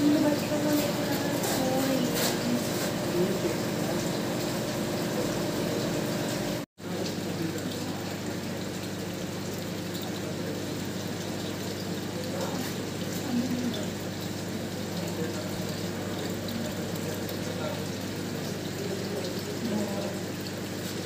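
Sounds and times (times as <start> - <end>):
aquarium water and aeration rushing: 0.0 - 21.0.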